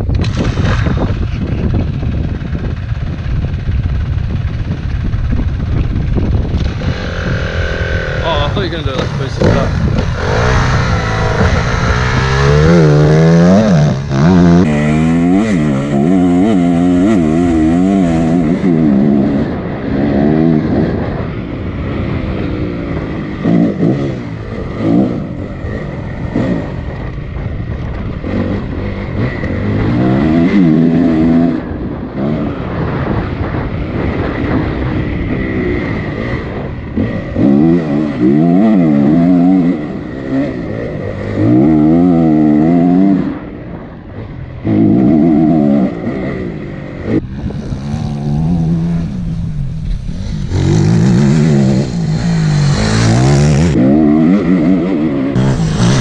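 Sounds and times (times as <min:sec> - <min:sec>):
wind noise: 0:00.0 - 0:56.0
dirt bike engine revving: 0:06.4 - 0:56.0.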